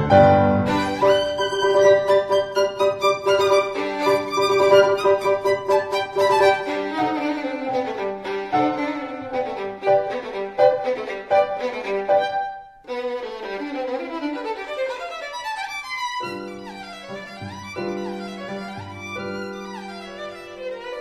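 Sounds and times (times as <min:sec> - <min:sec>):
background music melody: 0:00.0 - 0:21.0.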